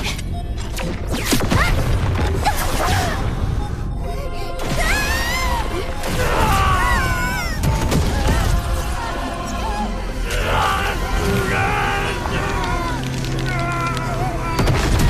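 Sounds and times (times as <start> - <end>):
dramatic orchestral score: 0.0 - 15.0.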